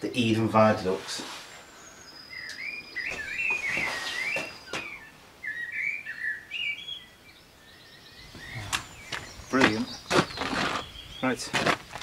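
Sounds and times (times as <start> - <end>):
songbird warbling: 1.6 - 11.4.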